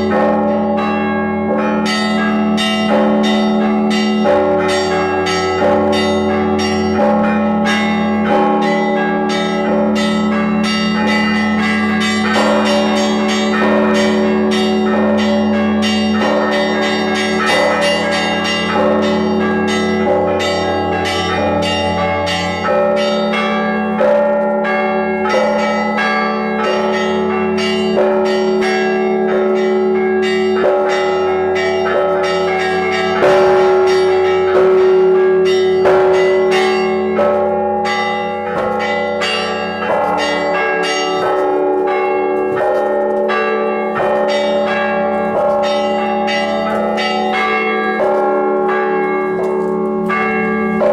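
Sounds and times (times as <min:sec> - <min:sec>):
heavy bell stroke: 0:00.0 - 0:50.9
large bells humming: 0:00.0 - 0:50.9
small church bells ringing quickly: 0:00.0 - 0:50.9.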